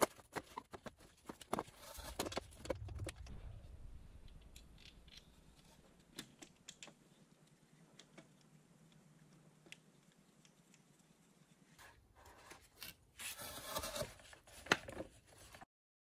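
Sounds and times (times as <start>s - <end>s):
rubbing and scraping: 0.0s - 8.4s, 11.1s - 15.7s.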